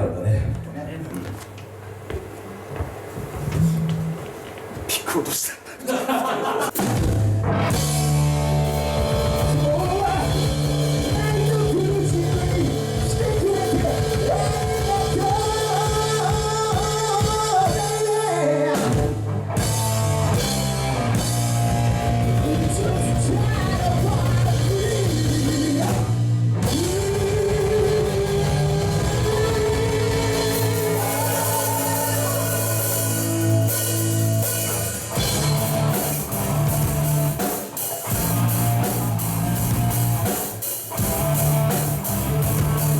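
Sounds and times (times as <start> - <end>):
rock song with vocals: 6.0 - 42.9.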